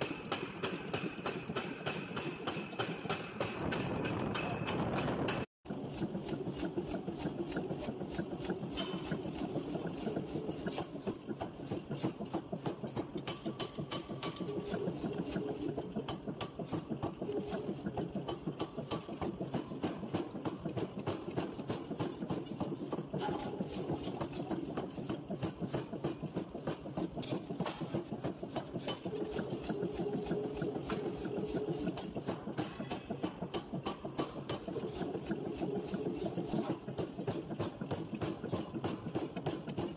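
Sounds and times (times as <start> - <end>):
machine running noise: 0.0 - 39.9
power hammer blows on steel: 0.0 - 39.9.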